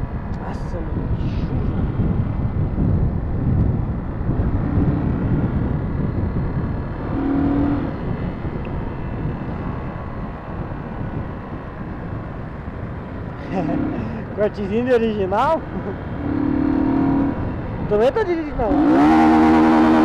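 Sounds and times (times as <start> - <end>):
wind rumble on microphone: 0.0 - 20.0
motorcycle engine: 0.8 - 20.0.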